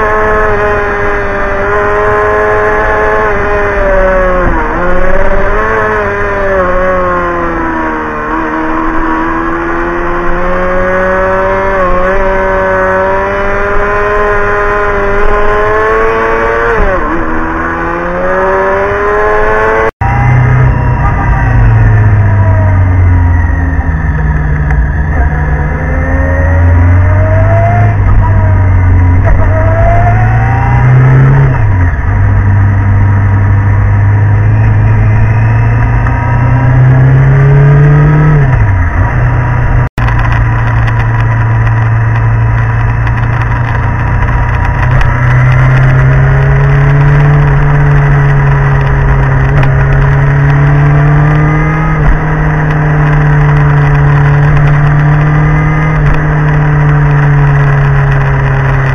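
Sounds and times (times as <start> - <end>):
motorcycle engine: 0.0 - 58.9
wind noise: 0.0 - 58.9.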